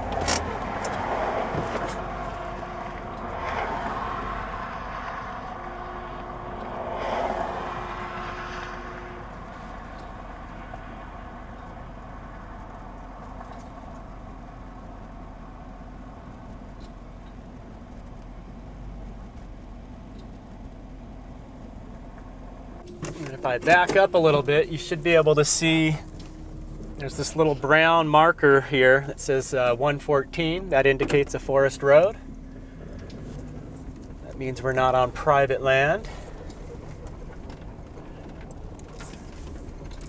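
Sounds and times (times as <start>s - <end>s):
van engine idling: 0.0s - 40.0s.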